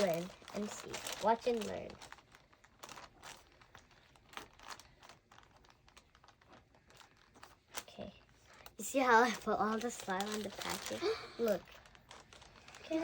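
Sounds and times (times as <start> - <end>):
slime crinkling and clicking: 0.0 - 8.0, 8.6 - 13.0.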